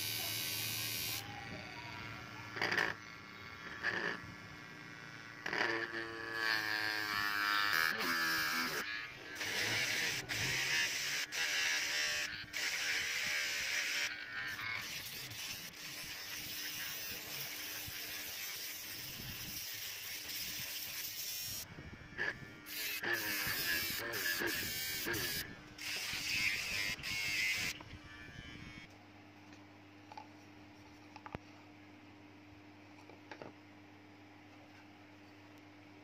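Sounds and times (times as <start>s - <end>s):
electric pencil sharpener motor: 0.0s - 28.9s.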